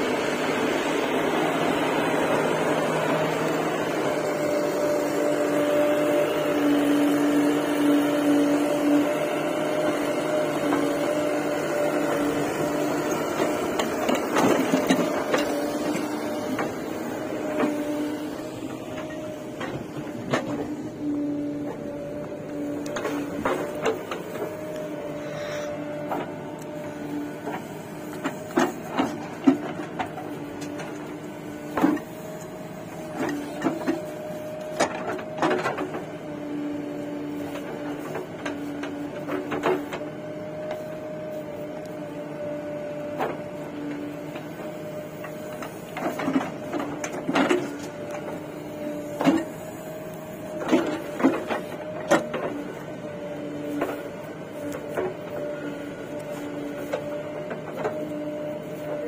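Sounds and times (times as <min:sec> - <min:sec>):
backhoe engine humming whine: 0:00.0 - 0:59.0.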